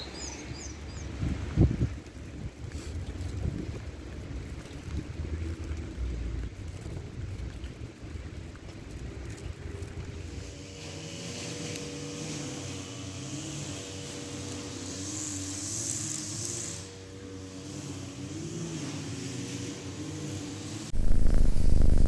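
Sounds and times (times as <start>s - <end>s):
distant road traffic hum: 0.0s - 22.0s.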